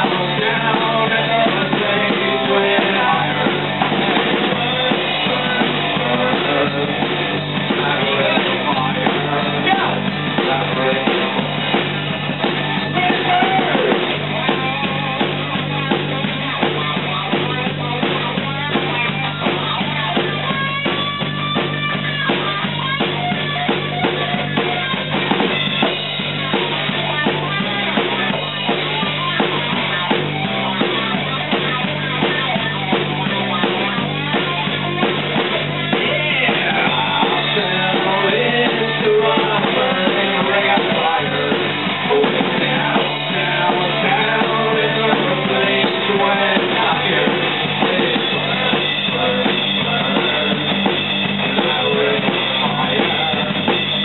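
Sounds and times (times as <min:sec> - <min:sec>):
drum kit with cymbals: 0:00.0 - 0:54.0
electric guitar: 0:00.0 - 0:54.0
man singing: 0:00.0 - 0:54.0.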